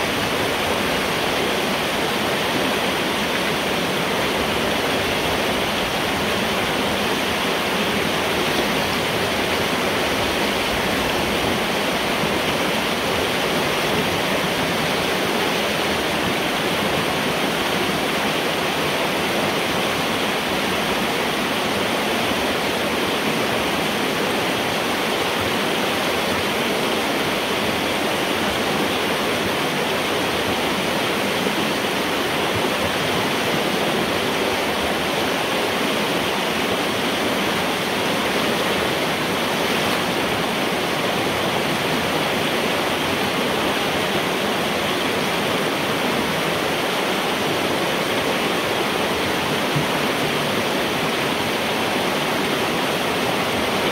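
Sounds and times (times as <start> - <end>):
water rushing through metal pipe: 0.0 - 53.9.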